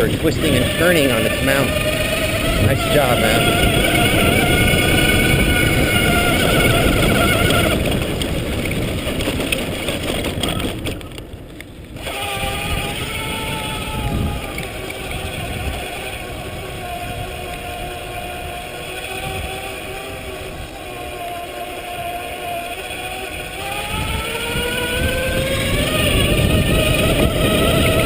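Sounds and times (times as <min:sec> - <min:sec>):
electric bike motor whining: 0:00.0 - 0:28.0
wind rumble on microphone: 0:00.0 - 0:28.0.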